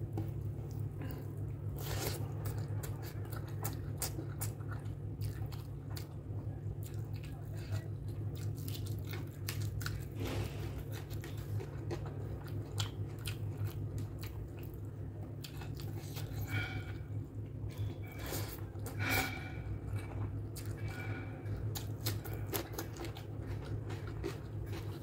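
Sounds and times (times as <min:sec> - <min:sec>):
close-miked chewing: 0:00.0 - 0:25.0
steady low hum: 0:00.0 - 0:25.0.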